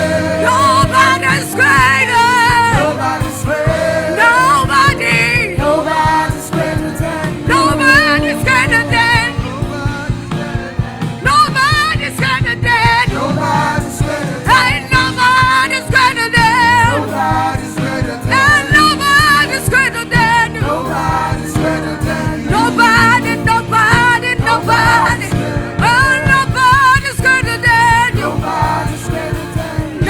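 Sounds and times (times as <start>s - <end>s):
band with bass and beat: 0.0s - 30.0s
person singing with vibrato: 0.0s - 30.0s.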